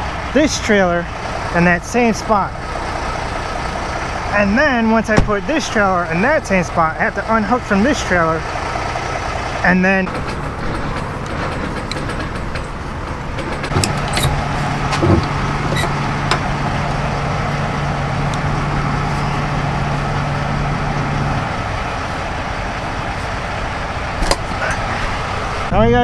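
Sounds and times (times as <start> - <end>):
diesel truck engine idling: 0.0 - 26.0
air-line couplings clicking: 3.1 - 25.8.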